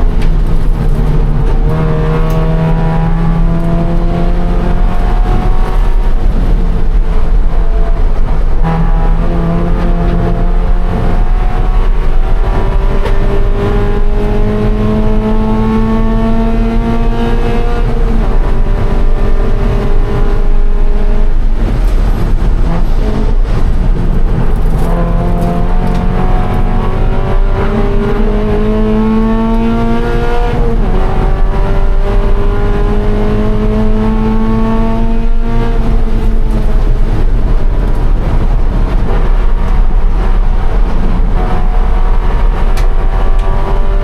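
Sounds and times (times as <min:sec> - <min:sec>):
car engine revving at full throttle: 0:00.0 - 0:44.0
tyre and wind noise: 0:00.0 - 0:44.0.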